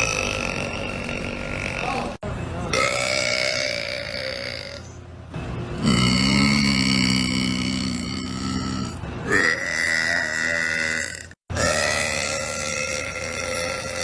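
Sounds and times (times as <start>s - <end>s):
long belches: 0.0s - 4.9s, 5.8s - 14.0s.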